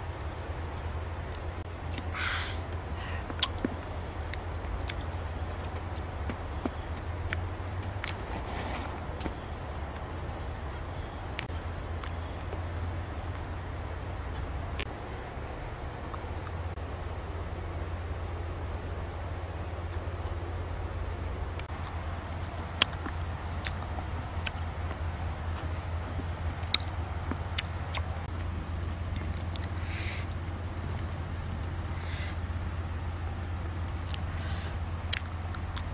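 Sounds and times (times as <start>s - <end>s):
insects chirring: 0.0s - 35.9s
low steady hum: 0.0s - 35.9s.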